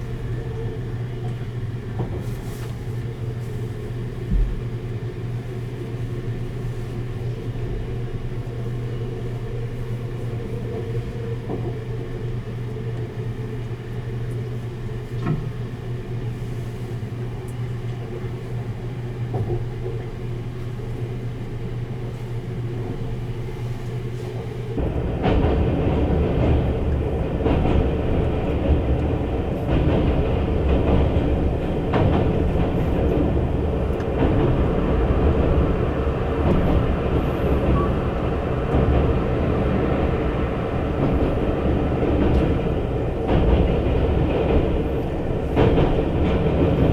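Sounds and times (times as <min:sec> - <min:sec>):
train rumble and rattle: 0:00.0 - 0:46.9
train running hum on board: 0:00.0 - 0:46.9.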